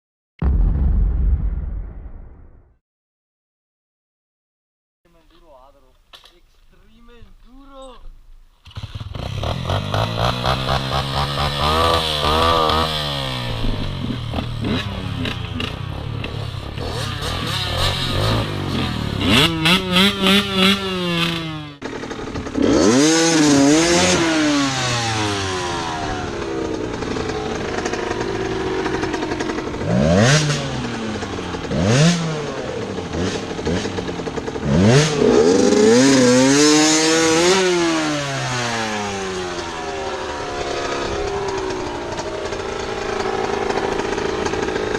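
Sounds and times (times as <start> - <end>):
motorcycle engines revving: 8.6 - 44.9.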